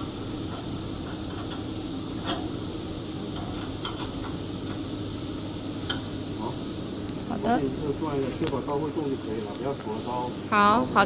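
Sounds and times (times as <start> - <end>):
low machine-room hum: 0.0 - 11.0.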